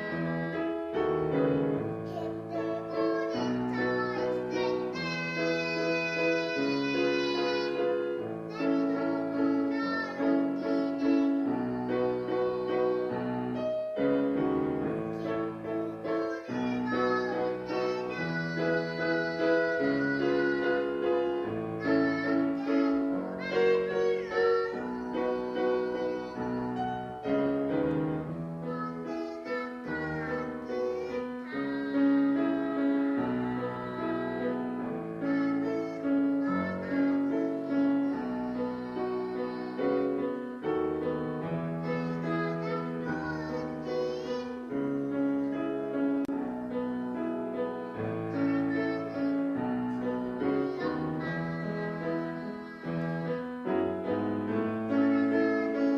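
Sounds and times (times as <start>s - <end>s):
child singing: 0.0s - 55.9s
piano accompaniment: 0.0s - 55.9s.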